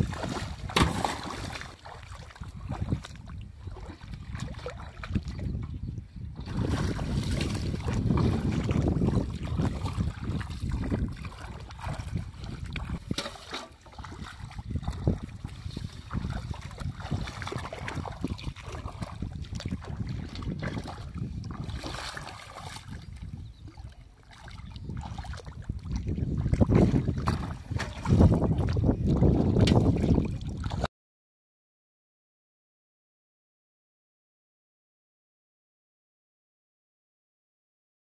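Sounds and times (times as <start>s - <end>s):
muddy water sloshing: 0.0s - 30.9s.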